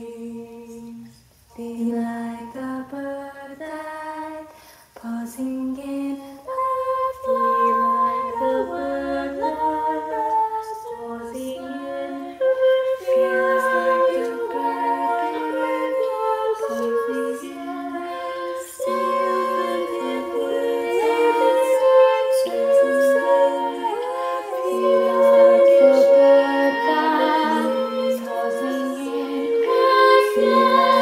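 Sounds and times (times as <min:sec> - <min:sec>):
women's choir singing: 0:00.0 - 0:31.0.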